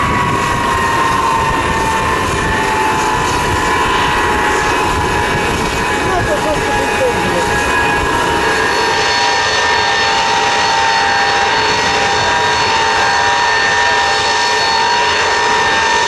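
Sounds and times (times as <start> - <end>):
jet engines whining: 0.0 - 16.0.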